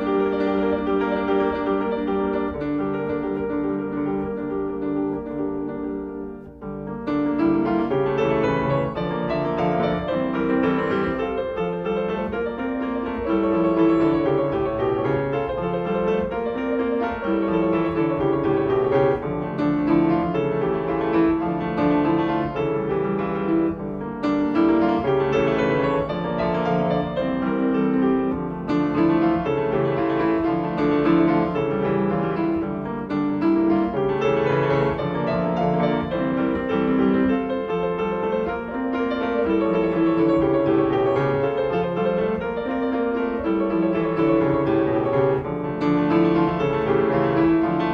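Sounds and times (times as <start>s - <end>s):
flowing piano piece: 0.0s - 47.9s.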